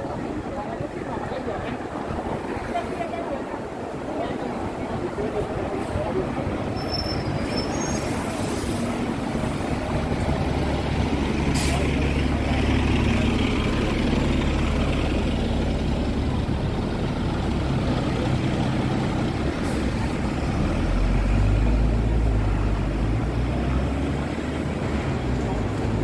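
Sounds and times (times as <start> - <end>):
heavy road traffic rumble: 0.0 - 26.0.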